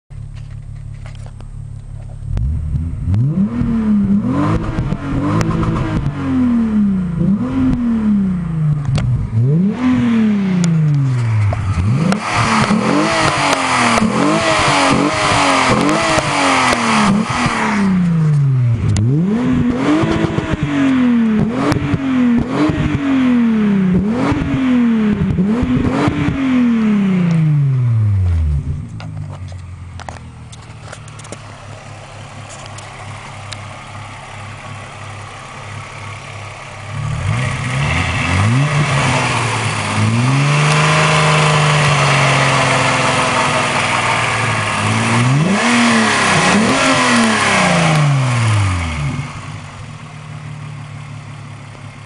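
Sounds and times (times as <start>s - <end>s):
car engine revving: 0.2s - 52.0s.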